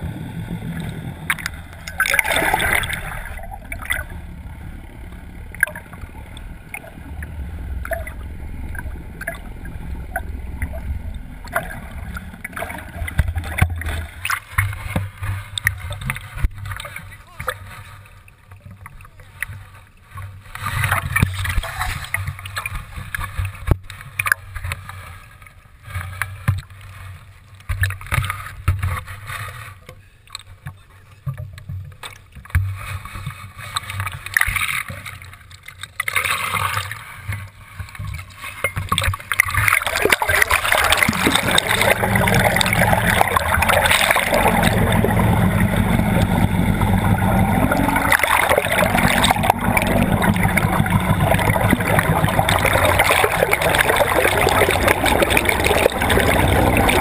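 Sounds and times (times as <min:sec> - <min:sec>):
rush of water and boat noise: 0:00.0 - 0:57.0
water sloshing around boat: 0:00.0 - 0:57.0.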